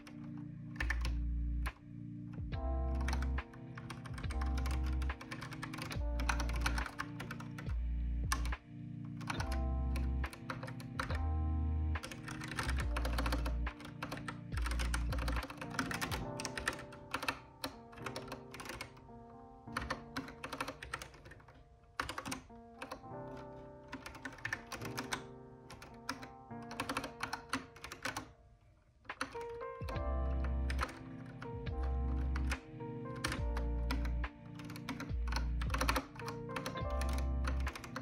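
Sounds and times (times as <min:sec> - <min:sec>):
keyboard keys clicking: 0:00.0 - 0:38.0
lo-fi background music: 0:00.0 - 0:38.0.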